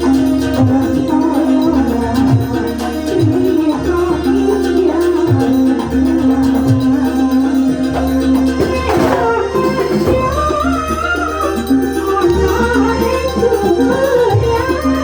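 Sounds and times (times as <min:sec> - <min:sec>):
drums: 0:00.0 - 0:15.0
held instrumental tones: 0:00.0 - 0:15.0
person singing melody: 0:00.0 - 0:15.0.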